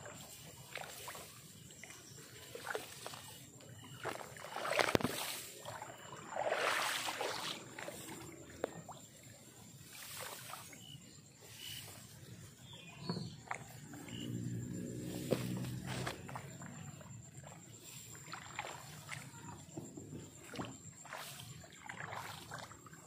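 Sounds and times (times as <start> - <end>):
tall grass swishing and rustling: 0.1 - 8.4, 9.1 - 12.9, 14.2 - 16.9, 17.8 - 19.3, 20.4 - 22.7.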